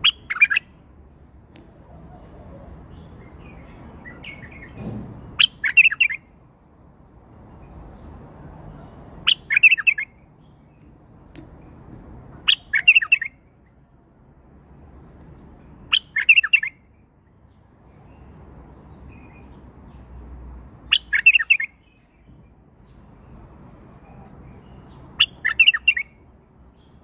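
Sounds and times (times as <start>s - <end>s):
bird singing warbled phrases: 0.0s - 0.8s, 1.6s - 13.8s, 15.2s - 27.0s.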